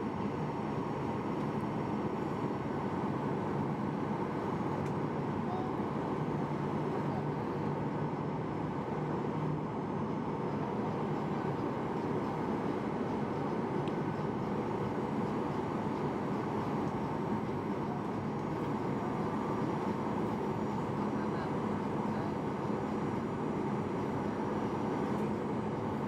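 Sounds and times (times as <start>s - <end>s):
aircraft cabin engine rush: 0.0s - 26.0s
faint steady hums: 0.0s - 26.0s.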